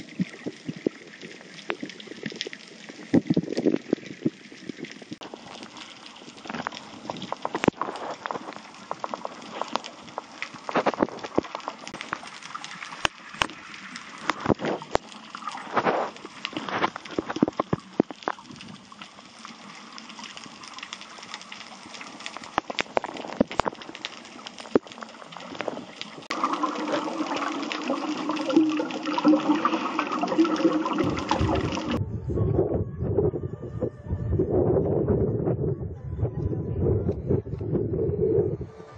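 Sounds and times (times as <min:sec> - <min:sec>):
rush of water: 0:00.0 - 0:32.0
underwater crackling clicks: 0:00.0 - 0:32.0
water splashing at surface: 0:00.0 - 0:32.0.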